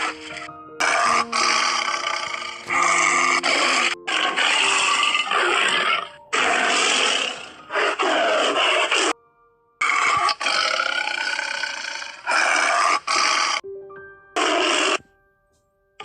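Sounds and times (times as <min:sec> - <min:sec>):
harsh animal calls: 0:00.0 - 0:09.2, 0:09.8 - 0:13.6, 0:14.4 - 0:15.0.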